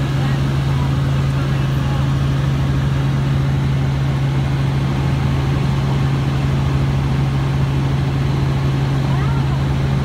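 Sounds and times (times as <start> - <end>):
helicopter rotor drone: 0.0 - 10.0.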